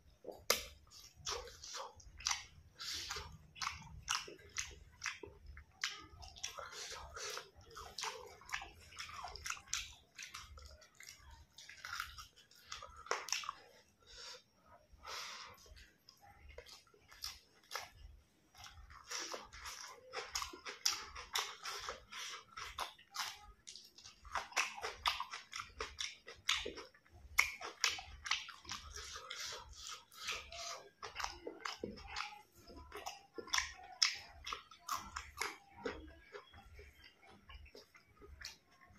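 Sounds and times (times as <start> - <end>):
person chewing crunchy food: 0.0 - 14.4, 15.0 - 38.9.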